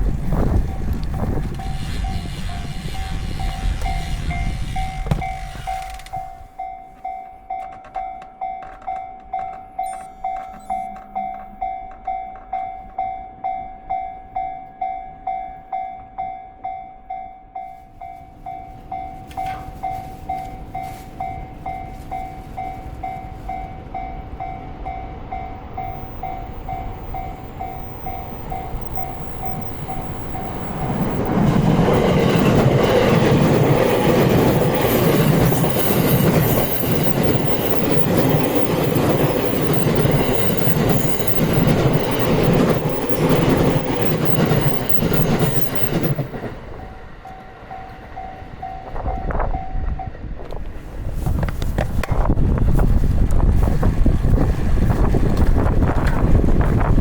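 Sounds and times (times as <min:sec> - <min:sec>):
train passing with wheel clatter: 0:00.0 - 0:57.0
level crossing bell clanging: 0:03.8 - 0:50.2.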